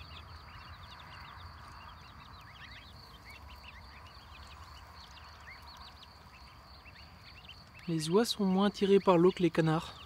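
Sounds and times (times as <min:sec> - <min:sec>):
chicks and ducklings peeping: 0:00.0 - 0:10.0.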